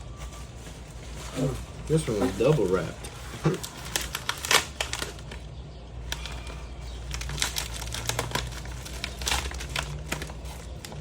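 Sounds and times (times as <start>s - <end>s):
packaging wrap crinkling: 0.0s - 11.0s.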